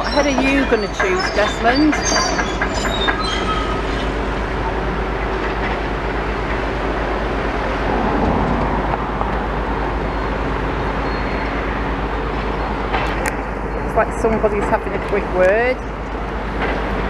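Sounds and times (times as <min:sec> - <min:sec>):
heavy machinery rumble: 0:00.0 - 0:17.0
traffic noise: 0:00.0 - 0:17.0.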